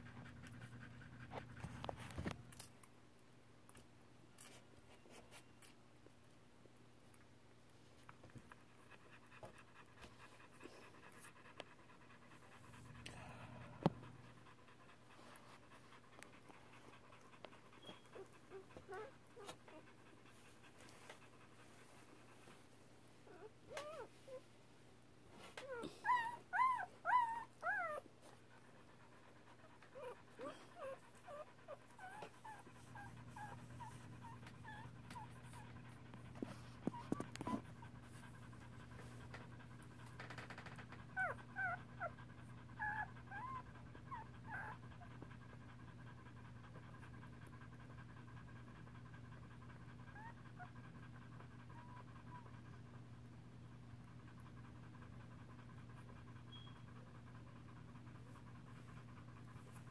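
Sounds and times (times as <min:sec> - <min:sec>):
dog panting: 0:00.0 - 0:02.4, 0:08.3 - 0:24.4, 0:25.4 - 0:59.9.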